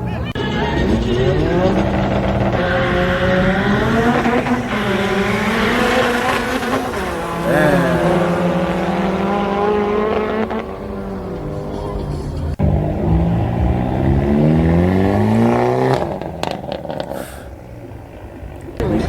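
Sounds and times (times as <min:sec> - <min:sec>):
sports car engines revving: 0:00.0 - 0:19.0.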